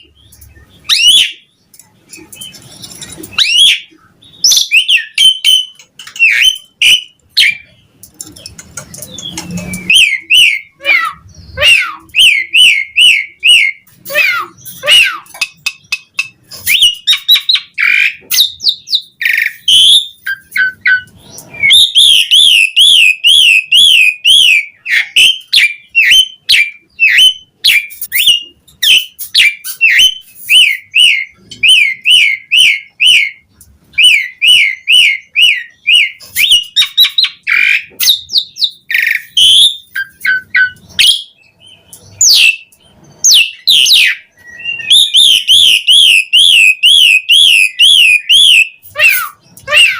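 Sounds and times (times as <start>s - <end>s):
starling singing chirps and trills: 0.0s - 49.9s.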